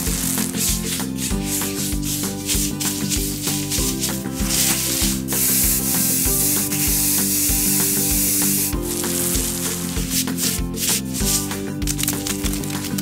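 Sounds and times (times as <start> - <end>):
background music with steady beat: 0.0 - 13.0
rubbing splattery hits: 0.0 - 13.0
spray paint hiss: 0.0 - 13.0.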